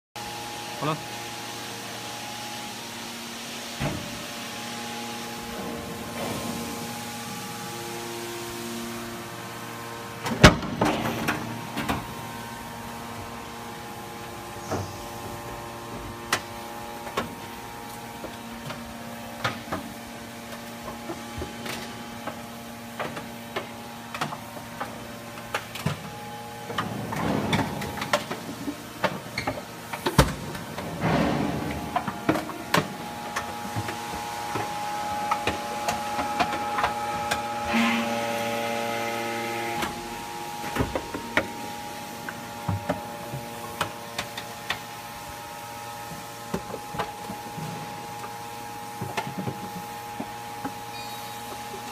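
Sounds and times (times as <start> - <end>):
hydraulic power unit humming: 0.2 - 51.9.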